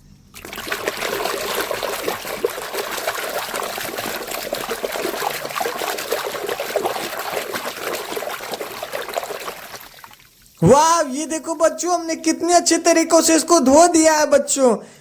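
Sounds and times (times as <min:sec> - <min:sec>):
water splashing and trickling: 0:00.3 - 0:12.4.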